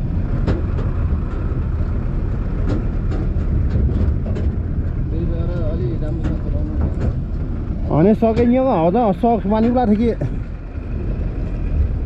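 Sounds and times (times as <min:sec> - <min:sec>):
tractor engine running: 0:00.0 - 0:12.0
trailer knocking and rattling: 0:00.0 - 0:12.0.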